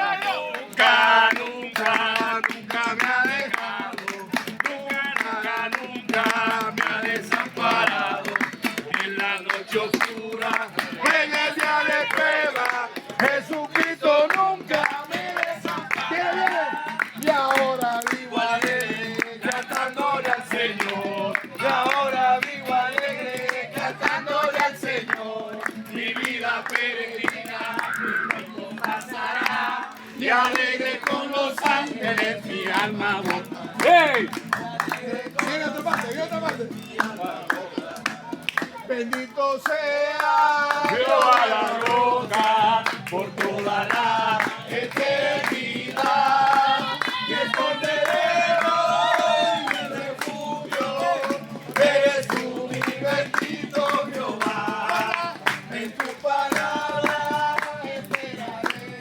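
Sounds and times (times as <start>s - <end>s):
group singing worship song: 0.0s - 59.0s
hands clapping along: 0.0s - 59.0s.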